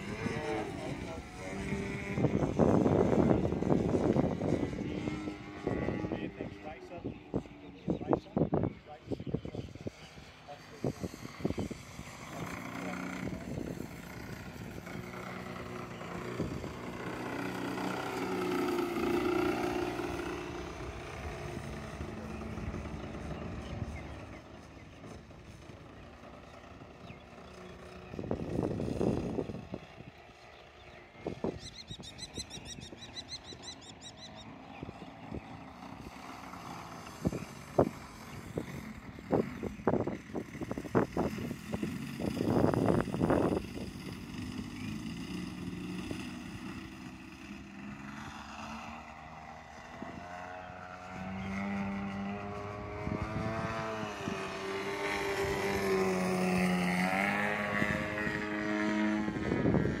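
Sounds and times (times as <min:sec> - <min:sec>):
propeller drone: 0:00.0 - 1:00.0.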